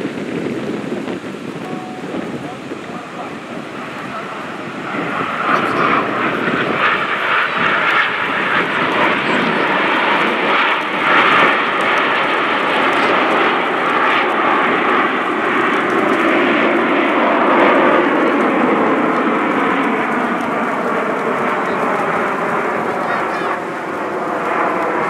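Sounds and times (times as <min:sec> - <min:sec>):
jet aircraft flying overhead: 0:00.0 - 0:25.0.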